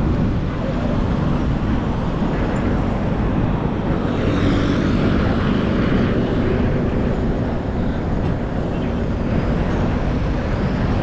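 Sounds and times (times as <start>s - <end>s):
traffic engine drone: 0.0s - 11.0s
vehicle passing: 0.9s - 11.0s.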